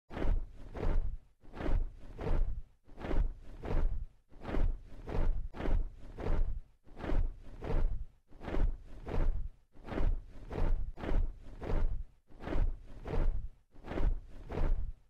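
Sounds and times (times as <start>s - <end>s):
large wings flapping: 0.1s - 15.0s.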